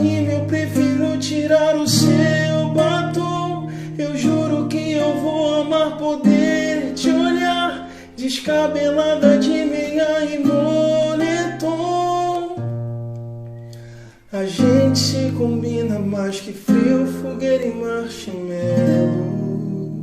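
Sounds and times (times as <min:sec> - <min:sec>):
person singing: 0:00.0 - 0:12.7, 0:14.1 - 0:20.0
acoustic guitar strumming: 0:00.0 - 0:20.0.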